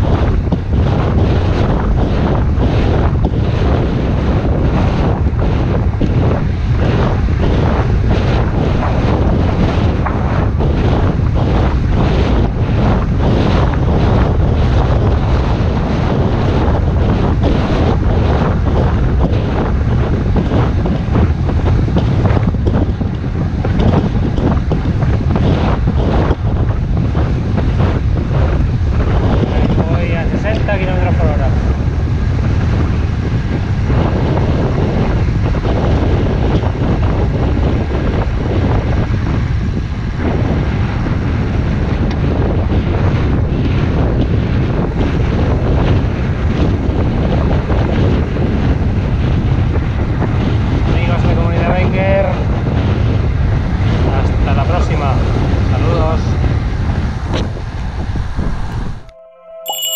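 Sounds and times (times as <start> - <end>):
wind buffeting microphone: 0.0 - 59.2.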